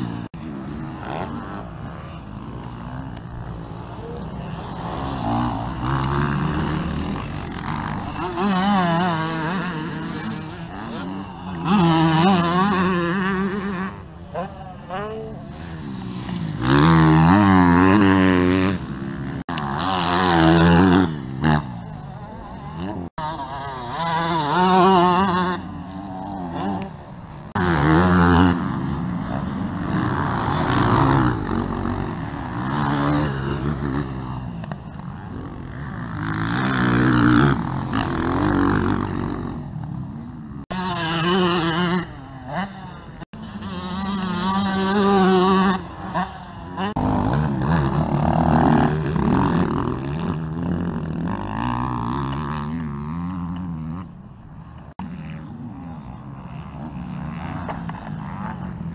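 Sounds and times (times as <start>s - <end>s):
motocross bike engines revving: 0.0s - 58.9s.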